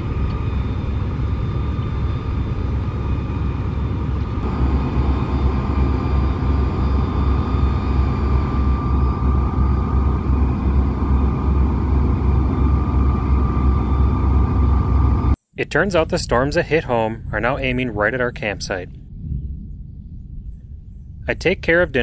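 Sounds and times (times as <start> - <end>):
diesel engines droning: 0.0 - 18.8.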